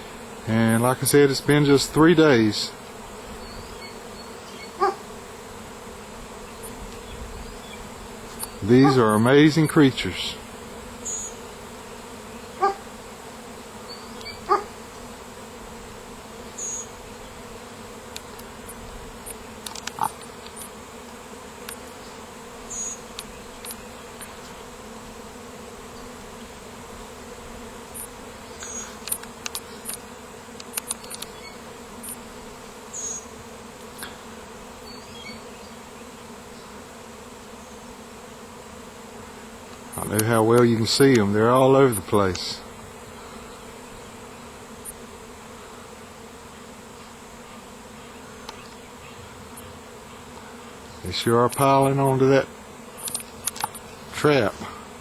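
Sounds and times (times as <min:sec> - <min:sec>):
bee swarm humming: 0:00.0 - 0:55.0.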